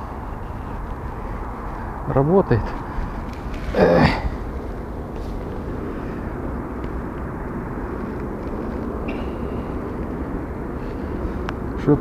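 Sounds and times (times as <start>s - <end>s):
faint clicks and rustles: 0.0s - 12.0s
low engine drone: 0.0s - 12.0s.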